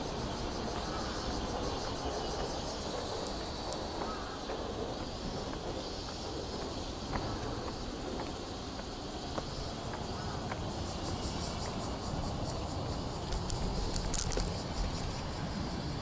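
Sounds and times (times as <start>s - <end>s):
bicycle rolling with wind rumble: 0.0s - 16.0s.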